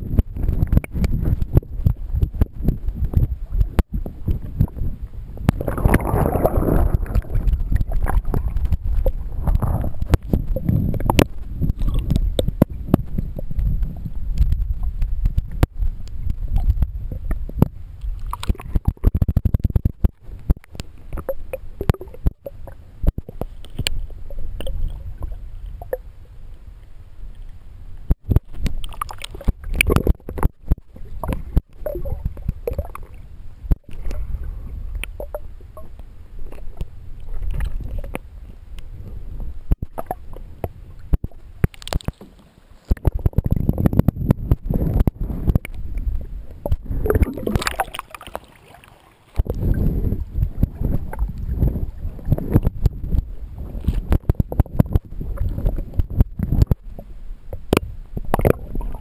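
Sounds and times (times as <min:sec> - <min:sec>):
water rumbling and gurgling: 0:00.0 - 0:59.0.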